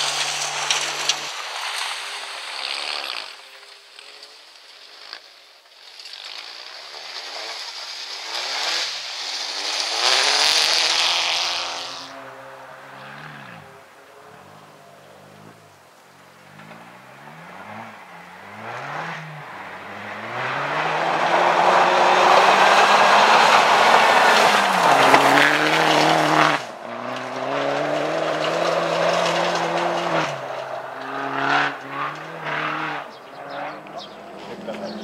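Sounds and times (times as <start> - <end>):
rally car engine at full throttle: 0.0 - 35.0
tyres rushing on gravel: 0.0 - 35.0.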